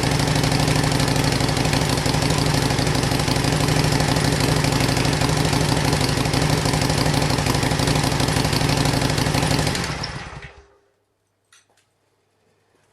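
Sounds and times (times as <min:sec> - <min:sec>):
motorcycle engine idling: 0:00.0 - 0:10.7.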